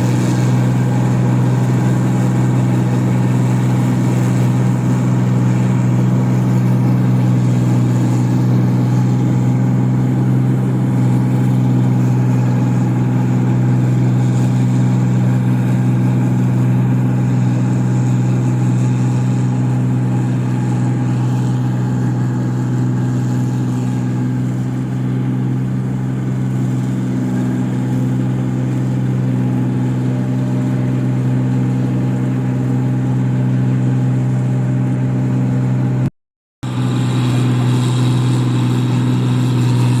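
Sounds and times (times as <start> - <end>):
machine engine droning: 0.0 - 40.0.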